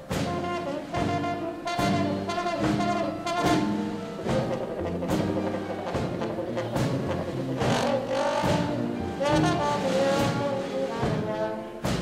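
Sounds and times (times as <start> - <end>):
big band swing jazz: 0.0 - 12.0.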